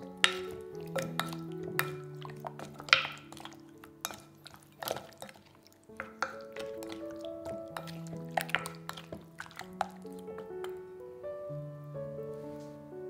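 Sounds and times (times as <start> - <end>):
wet squelches of stirring: 0.0 - 11.0
soft background music: 0.0 - 13.0.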